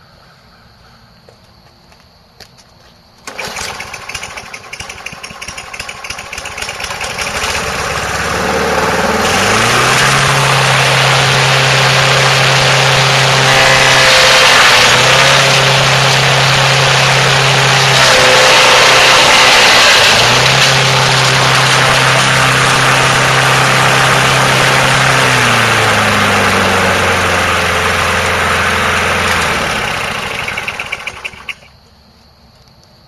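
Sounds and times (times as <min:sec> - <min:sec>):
lawn mower engine running: 0:03.2 - 0:31.8.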